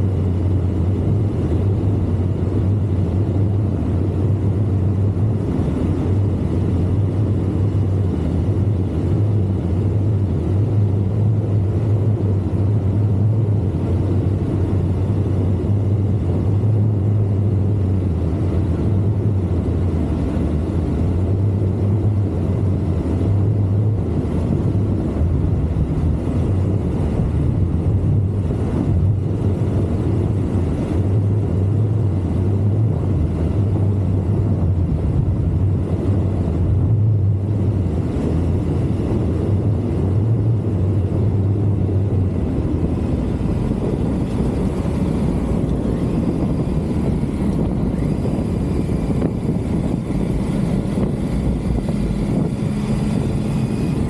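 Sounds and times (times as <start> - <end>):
motorcycle engine rumble: 0.0 - 54.0
wind noise: 0.0 - 54.0.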